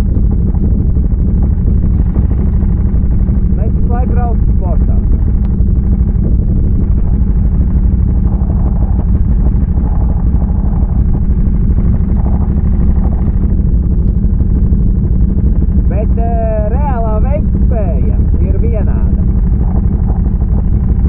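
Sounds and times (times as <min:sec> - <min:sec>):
engine running: 0:00.0 - 0:21.0
wind rumbling on microphone: 0:00.0 - 0:21.0.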